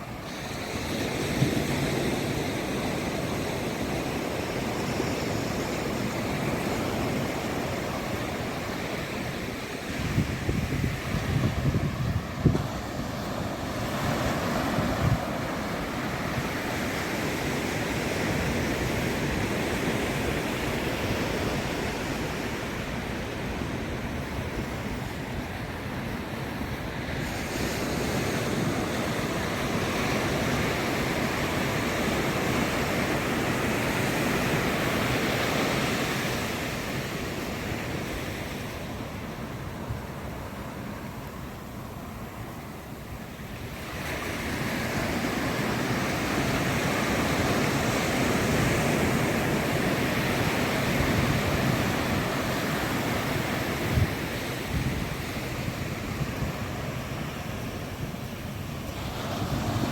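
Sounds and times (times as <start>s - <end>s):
wind on microphone: 0.0s - 41.0s, 42.9s - 59.9s
waves breaking on beach: 0.0s - 59.9s.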